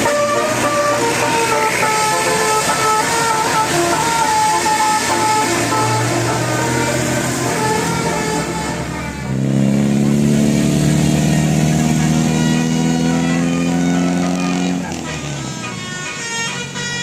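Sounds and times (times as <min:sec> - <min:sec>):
multi-tone bus horn chord: 0:00.0 - 0:09.7, 0:11.8 - 0:17.0.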